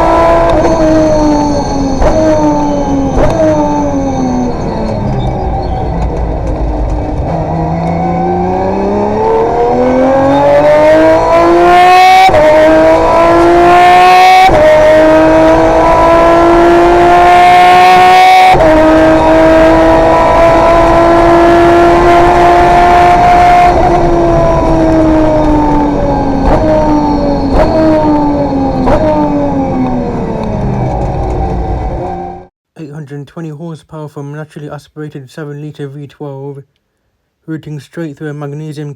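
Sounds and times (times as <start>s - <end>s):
car engine accelerating hard: 0.0s - 32.5s.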